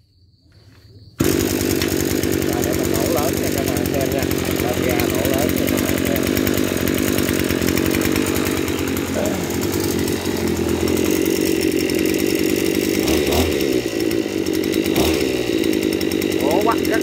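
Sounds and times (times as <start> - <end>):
brush cutter engine running: 1.2 - 17.0.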